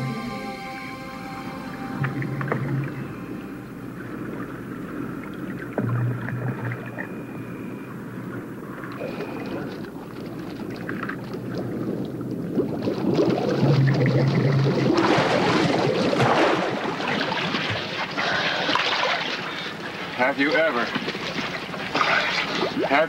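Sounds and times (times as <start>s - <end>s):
water splashing and bubbling: 2.0s - 23.0s.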